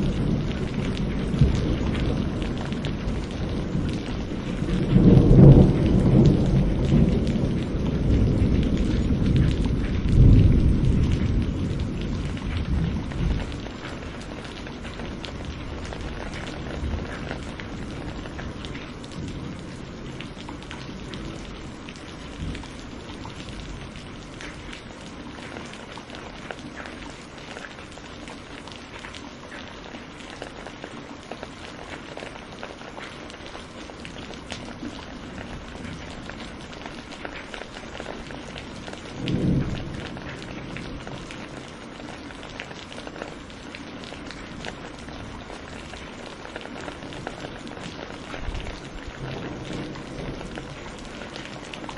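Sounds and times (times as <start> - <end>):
low rumble of thunder: 0.0 - 27.4, 31.8 - 51.9
raindrop hits: 0.0 - 51.9
steady rain: 0.0 - 51.9.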